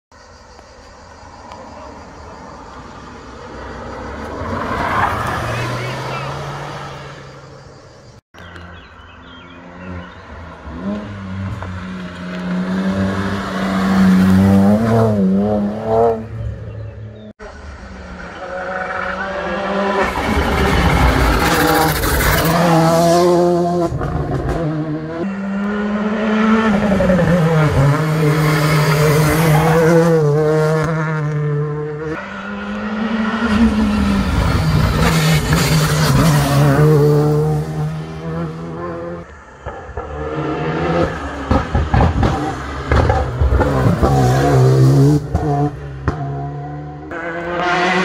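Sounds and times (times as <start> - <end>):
rally car engine revving: 8.4 - 48.0.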